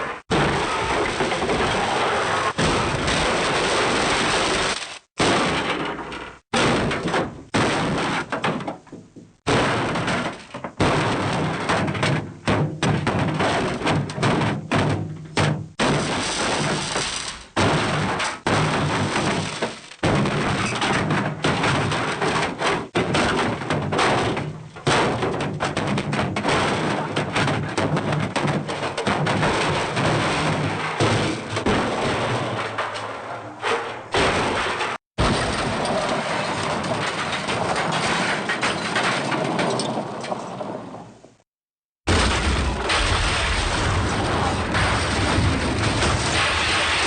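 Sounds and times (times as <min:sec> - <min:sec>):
crashes and thuds: 0:00.0 - 0:41.4, 0:42.0 - 0:47.0.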